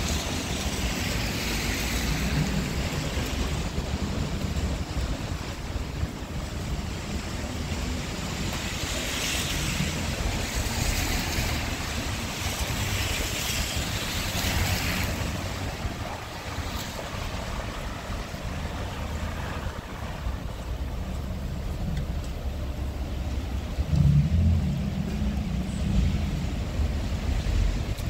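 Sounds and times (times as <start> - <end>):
low rumble of city traffic: 0.0 - 28.0
tyres hissing on wet asphalt: 0.0 - 28.0.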